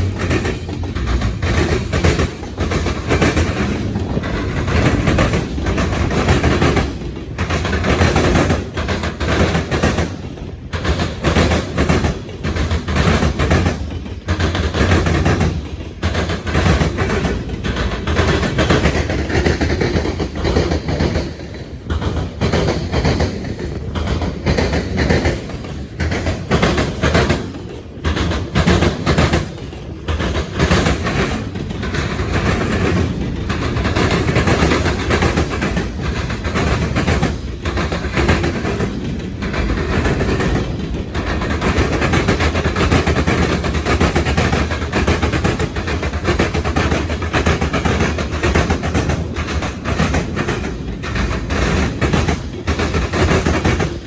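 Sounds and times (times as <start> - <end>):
rumble of passing train cars: 0.0 - 54.0
train wheels clacking over crossings: 0.0 - 54.0.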